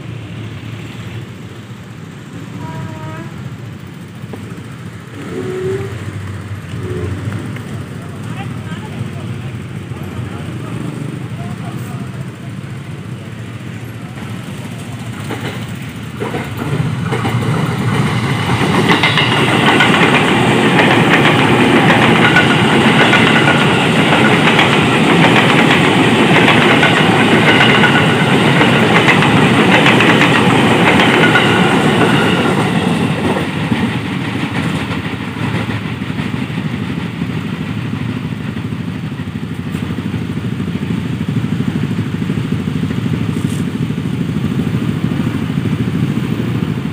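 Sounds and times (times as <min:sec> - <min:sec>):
train wheels clattering over rails: 0:00.0 - 0:46.9.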